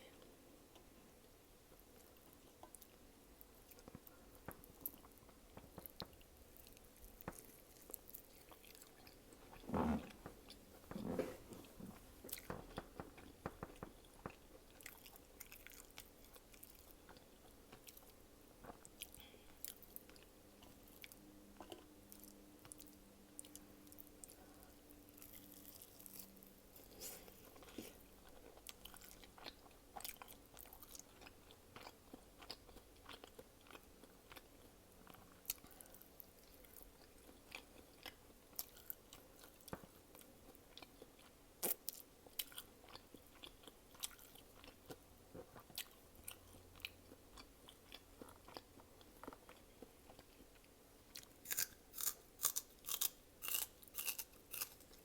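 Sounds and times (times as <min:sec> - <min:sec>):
person chewing with mouth clicks: 0:03.6 - 0:55.0.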